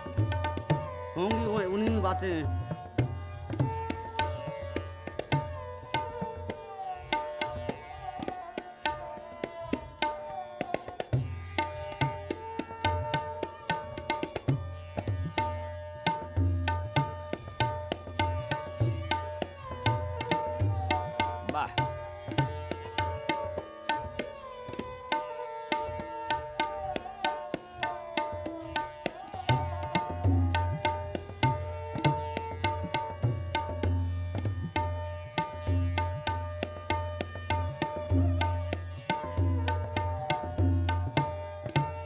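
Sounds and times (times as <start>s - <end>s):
sarangi melody: 0.0s - 42.0s
tabla strokes: 0.0s - 42.0s.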